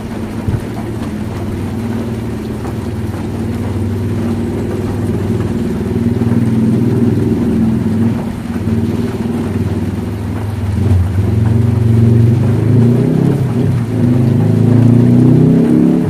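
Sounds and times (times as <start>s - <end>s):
engine running: 0.0s - 16.0s
rain hiss: 0.0s - 16.0s.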